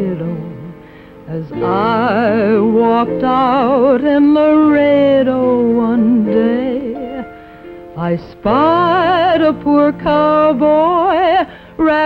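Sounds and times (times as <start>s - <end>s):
instrumental accompaniment: 0.0s - 12.0s
woman singing a ballad: 0.0s - 12.0s.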